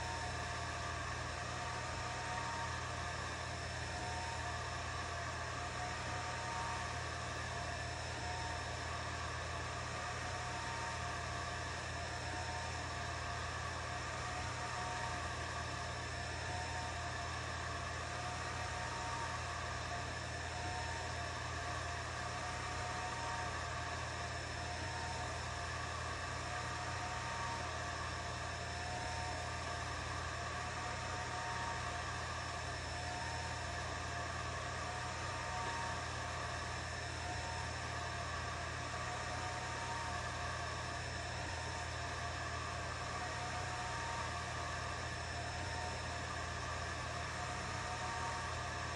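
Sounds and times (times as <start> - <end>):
fan hum: 0.0 - 48.9
stepper motors whining: 0.0 - 48.9.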